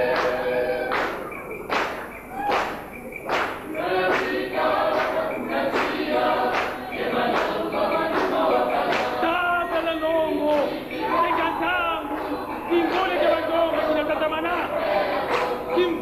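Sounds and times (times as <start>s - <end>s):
voices chanting together: 0.0s - 16.0s.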